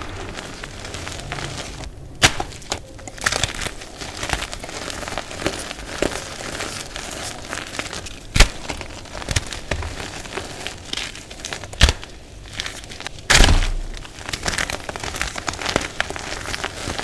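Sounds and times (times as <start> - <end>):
chalk crunching and crackling: 0.0 - 17.0.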